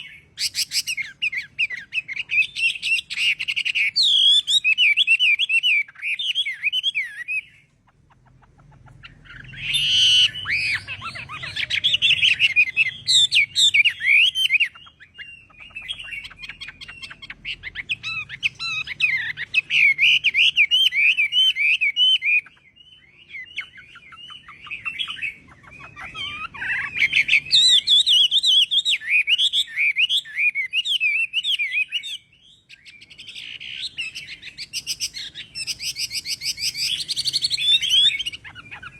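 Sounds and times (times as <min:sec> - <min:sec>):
bird singing rapid varied phrases: 0:00.0 - 0:38.9.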